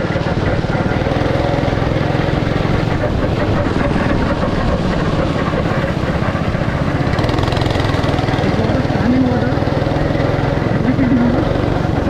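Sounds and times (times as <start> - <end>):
go-kart engines chugging: 0.0 - 12.0.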